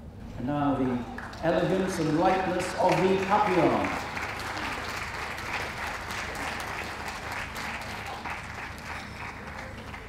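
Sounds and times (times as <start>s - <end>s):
audience applauding: 0.8s - 10.0s.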